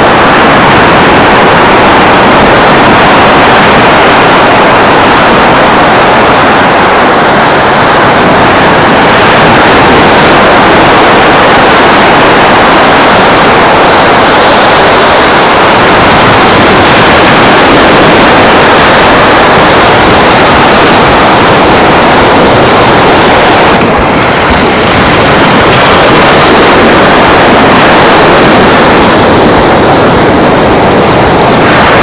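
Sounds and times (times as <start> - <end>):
surf: 0.0 - 32.0
wind: 0.0 - 32.0.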